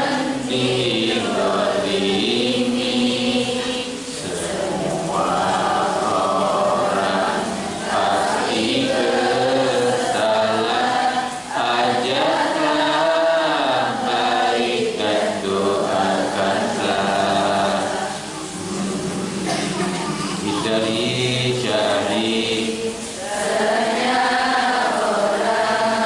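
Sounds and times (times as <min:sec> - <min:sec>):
man singing devotional song: 0:00.0 - 0:26.0.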